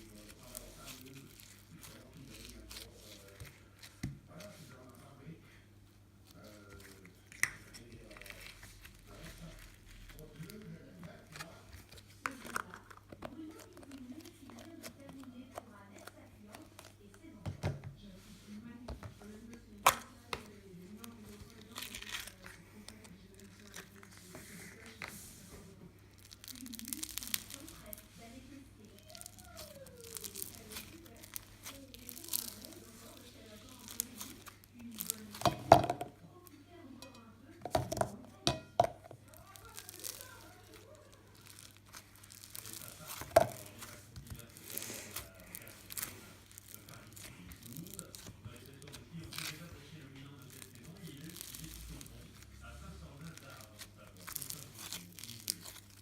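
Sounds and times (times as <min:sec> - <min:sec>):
slime crackling and popping: 0:00.0 - 0:04.1, 0:06.2 - 0:17.2, 0:19.6 - 0:25.0, 0:26.0 - 0:36.2, 0:37.7 - 0:56.0.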